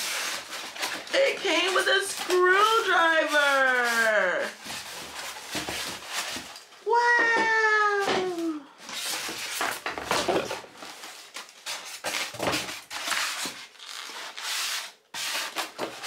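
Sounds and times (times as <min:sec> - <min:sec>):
foam insert scraping and rustling: 0:00.0 - 0:06.8, 0:08.8 - 0:16.0.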